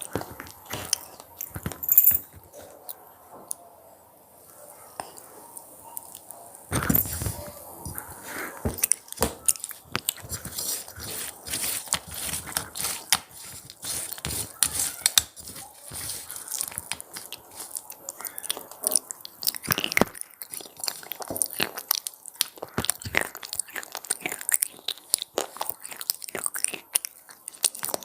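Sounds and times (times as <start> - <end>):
crunchy snack chewing: 0.0 - 1.8, 6.0 - 28.0.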